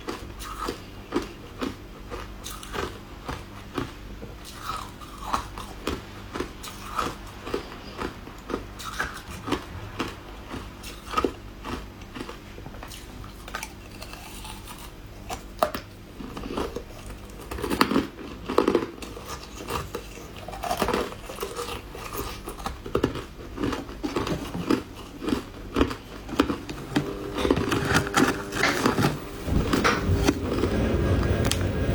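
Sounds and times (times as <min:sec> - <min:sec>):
ice being chewed: 0:00.0 - 0:31.0.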